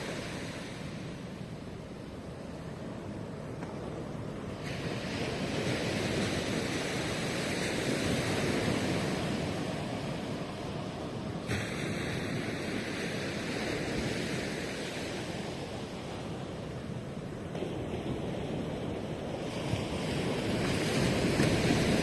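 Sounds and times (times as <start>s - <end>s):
ocean surf breaking on shore: 0.0s - 22.0s.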